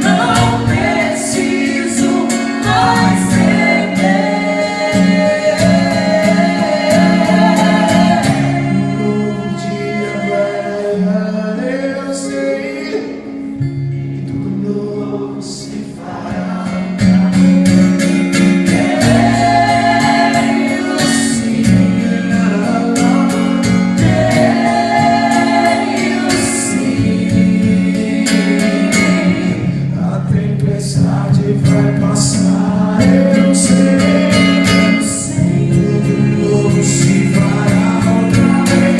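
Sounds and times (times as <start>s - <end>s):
song with singing voices: 0.0s - 38.9s.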